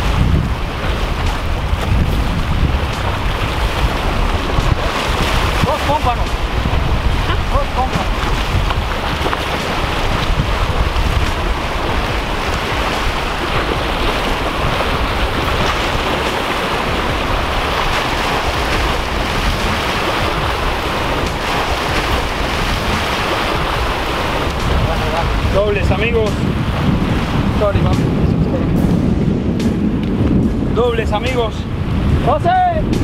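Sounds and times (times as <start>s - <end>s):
surf washing over rocks: 0.0s - 33.0s
wind rumbling on microphone: 0.0s - 33.0s.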